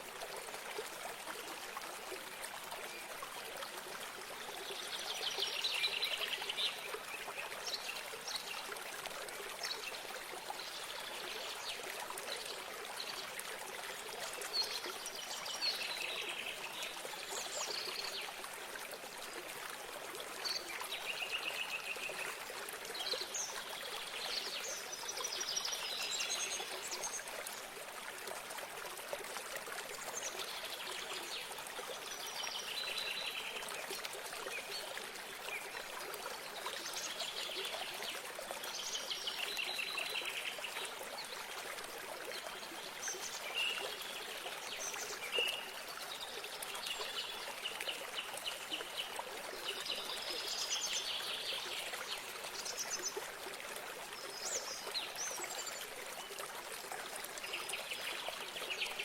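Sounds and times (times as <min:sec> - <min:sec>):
trickling stream water: 0:00.0 - 0:59.0.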